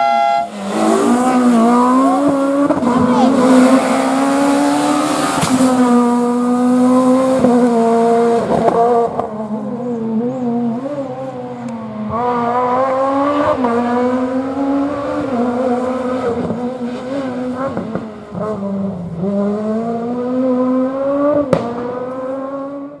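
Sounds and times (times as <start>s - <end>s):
rally car engine revving hard: 0.0s - 23.0s.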